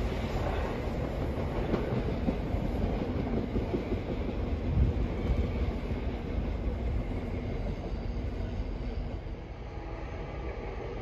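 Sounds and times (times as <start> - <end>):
train wheels rumbling on bridge: 0.0 - 11.0.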